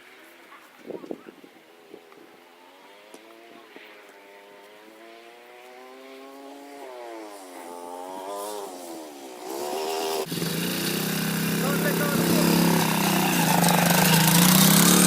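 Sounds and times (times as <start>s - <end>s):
quad bike engine revving: 2.6s - 15.0s.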